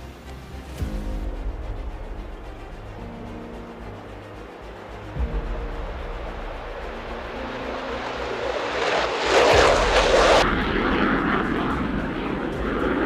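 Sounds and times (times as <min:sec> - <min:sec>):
jet aircraft engine: 0:02.4 - 0:13.0.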